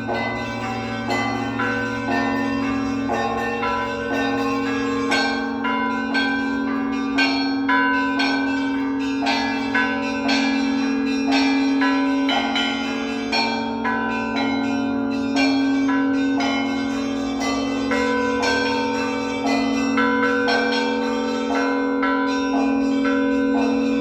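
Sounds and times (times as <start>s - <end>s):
church bells ringing: 0.0s - 24.0s
large bell hum: 0.0s - 24.0s.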